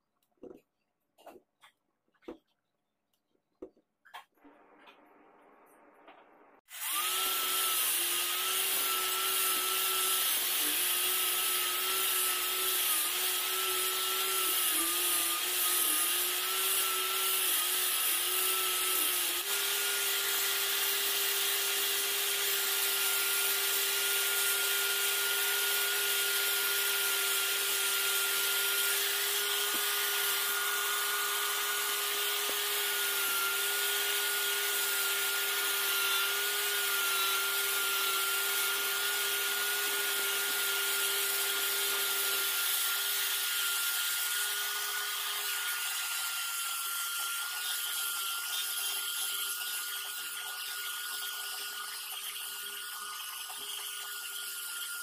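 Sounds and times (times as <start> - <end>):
angle grinder whining: 4.3 - 55.0.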